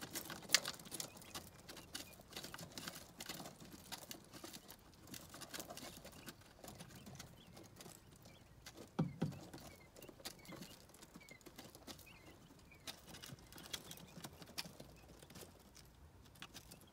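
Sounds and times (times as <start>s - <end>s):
chicks cheeping: 0.0s - 16.9s
chicks pecking at plastic feeder: 0.0s - 16.9s
scratching in wood shavings: 0.0s - 16.9s.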